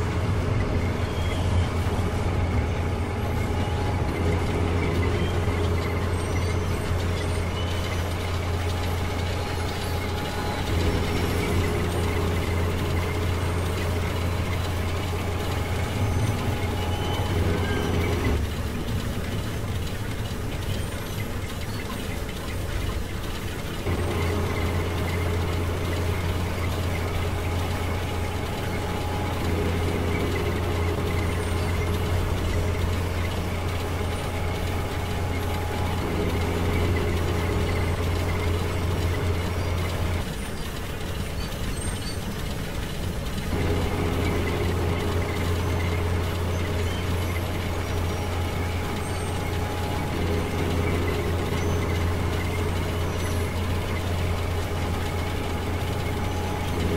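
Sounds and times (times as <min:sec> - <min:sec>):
crane engine low drone: 0:00.0 - 0:56.9.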